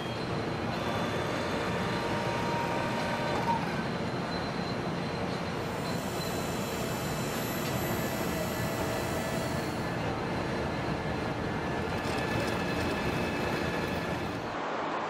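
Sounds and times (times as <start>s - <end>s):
faint whining tones: 0.0s - 14.6s.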